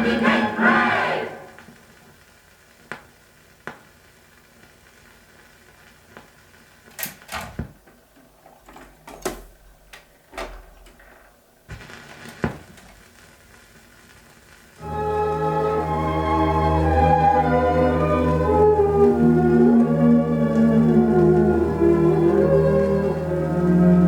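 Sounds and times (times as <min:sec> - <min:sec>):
record surface hiss: 0:00.0 - 0:24.0.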